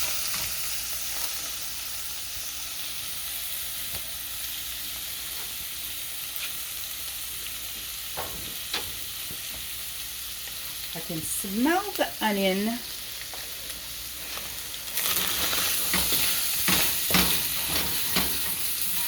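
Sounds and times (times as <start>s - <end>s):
onion sizzling in a pan: 0.0s - 19.0s.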